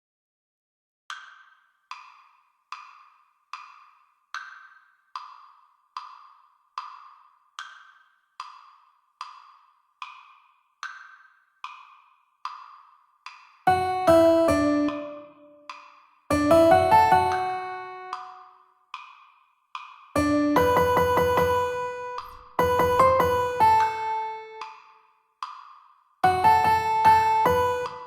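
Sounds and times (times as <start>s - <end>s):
wood-block metronome clicking: 1.1s - 19.2s, 19.8s - 28.0s.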